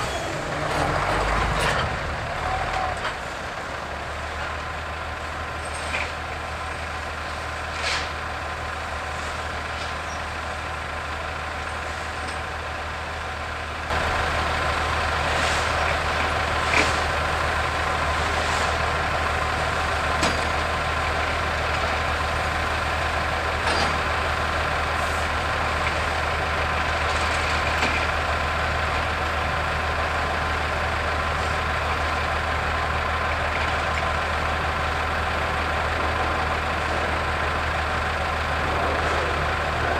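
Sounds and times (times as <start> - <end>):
heavy diesel machinery droning: 0.0 - 39.9.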